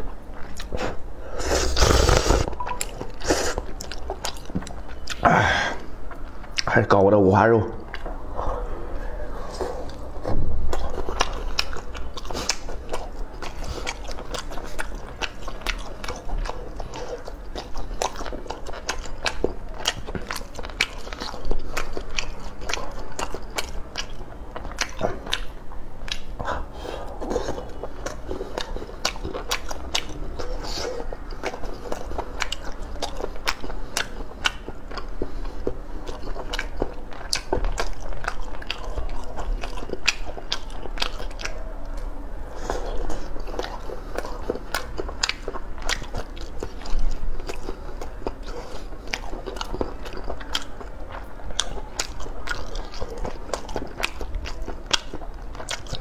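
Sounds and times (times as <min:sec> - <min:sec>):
chewing and biting: 0:01.6 - 0:05.2, 0:09.4 - 0:56.0.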